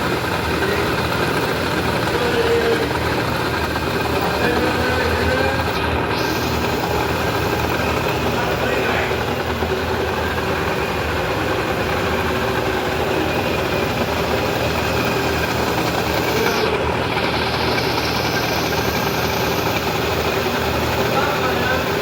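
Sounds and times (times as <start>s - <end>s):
metalworking machine running: 0.0s - 22.0s.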